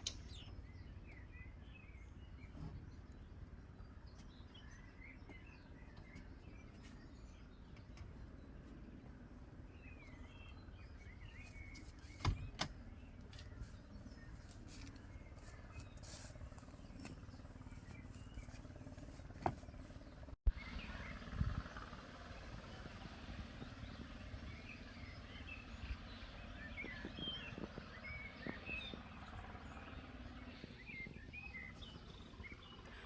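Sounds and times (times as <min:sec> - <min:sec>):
small birds chirping: 0:00.0 - 0:21.5, 0:22.4 - 0:33.0
low outdoor rumble: 0:00.0 - 0:33.0.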